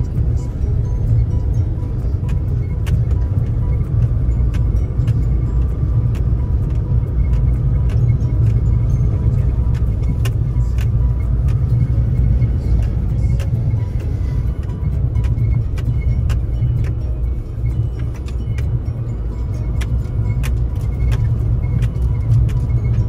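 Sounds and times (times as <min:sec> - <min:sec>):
faint music: 0:00.0 - 0:23.0
vehicle rumbling offroad: 0:00.0 - 0:23.0.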